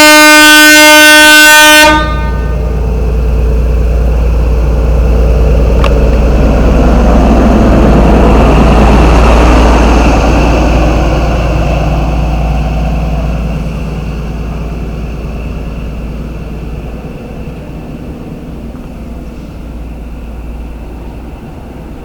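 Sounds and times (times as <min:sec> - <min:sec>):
diesel train engine rumble: 0:00.0 - 0:22.0.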